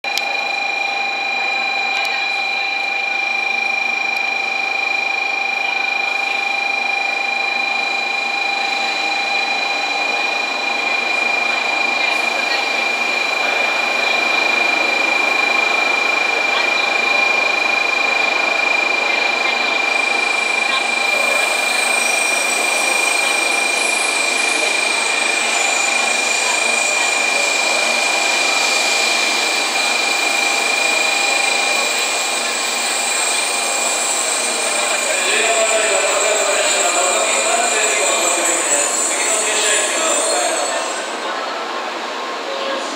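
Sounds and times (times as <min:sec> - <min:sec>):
train rolling noise: 0:00.0 - 0:42.9
high-pitched whining tones: 0:00.1 - 0:41.5.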